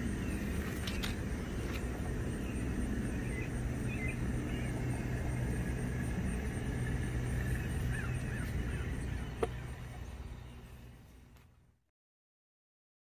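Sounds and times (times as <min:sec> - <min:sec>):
faint bird chirps: 0:00.0 - 0:05.5, 0:06.2 - 0:11.6
low rumble: 0:00.0 - 0:11.4.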